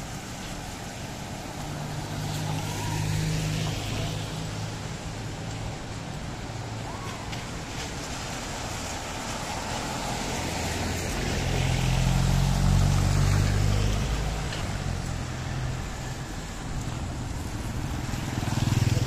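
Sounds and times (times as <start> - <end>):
street traffic hiss: 0.0 - 19.0
vehicle engine passing by: 1.2 - 5.2, 7.7 - 19.0.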